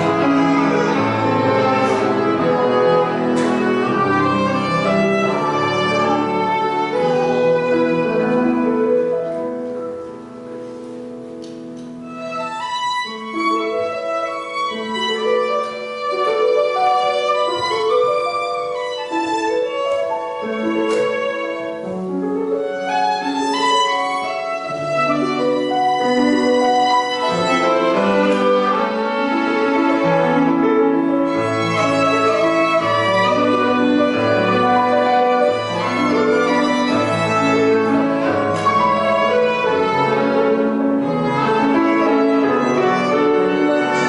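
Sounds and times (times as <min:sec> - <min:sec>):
violin playing a melody: 0:00.0 - 0:44.0.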